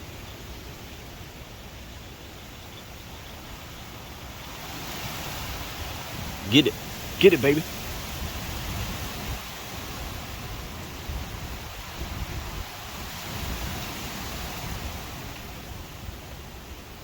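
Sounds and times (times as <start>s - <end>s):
strong gusty wind: 2.9s - 17.0s
wind buffeting microphone: 3.4s - 17.0s.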